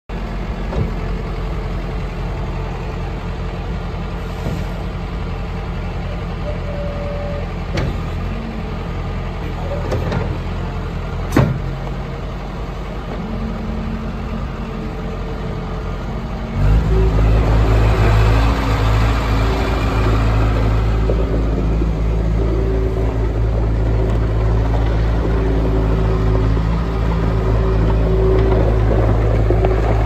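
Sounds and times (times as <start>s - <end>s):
diesel engine running: 0.1s - 30.0s
machine driving across gravel: 0.1s - 30.0s.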